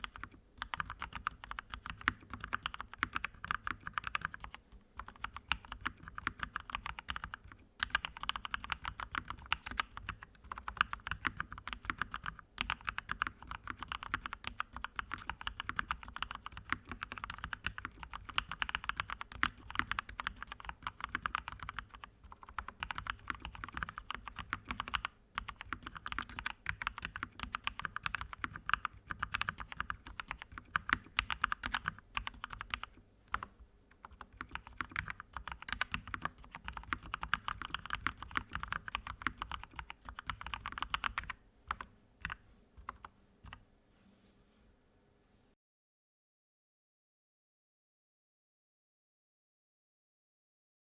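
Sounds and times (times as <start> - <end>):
typing on computer keyboard: 0.0 - 43.6.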